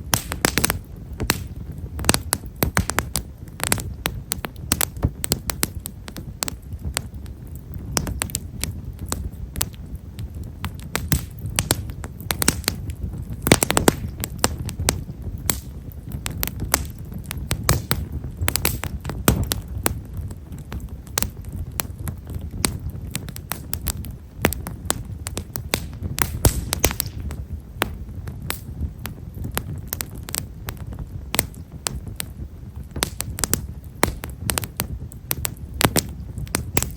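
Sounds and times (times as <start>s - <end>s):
campfire crackling and popping: 0.0s - 36.9s
low rumble of flames: 0.0s - 36.9s.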